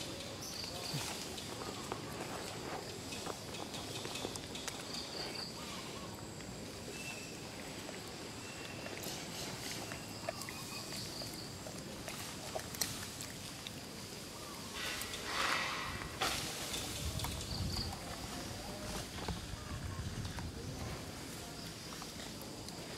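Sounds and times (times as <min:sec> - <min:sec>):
insects calling: 0:00.0 - 0:22.9.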